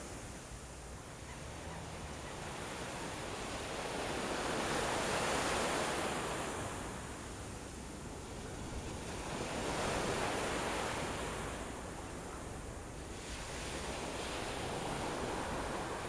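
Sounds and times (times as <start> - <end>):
surf washing up a beach: 0.0 - 16.0.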